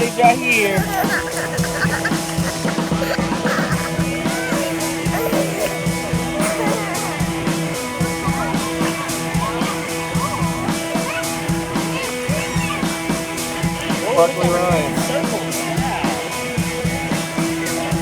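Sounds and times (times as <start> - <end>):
rock music with guitar: 0.0 - 18.0.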